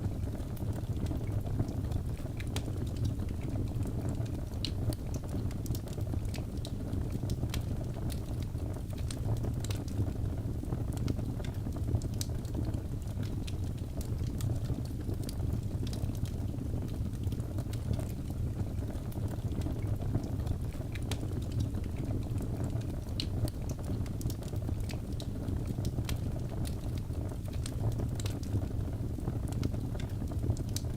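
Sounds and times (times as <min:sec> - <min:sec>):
fire flames rumbling: 0:00.0 - 0:30.9
wood crackling and popping: 0:00.0 - 0:30.9.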